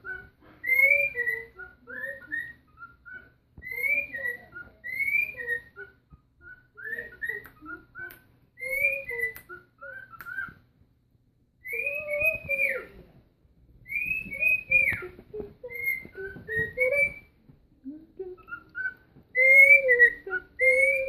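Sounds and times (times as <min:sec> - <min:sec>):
cockatiel whistling a tune: 0:00.0 - 0:10.6, 0:11.6 - 0:13.0, 0:13.8 - 0:17.4, 0:18.4 - 0:21.0.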